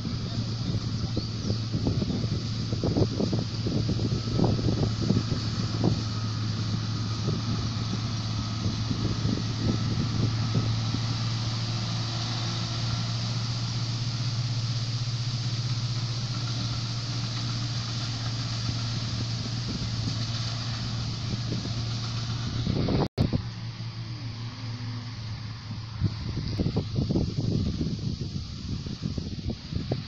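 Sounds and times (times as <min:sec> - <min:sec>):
combine harvester engine hum: 0:00.0 - 0:30.0
rushing of threshing works: 0:00.0 - 0:30.0
wind buffeting microphone: 0:00.0 - 0:30.0.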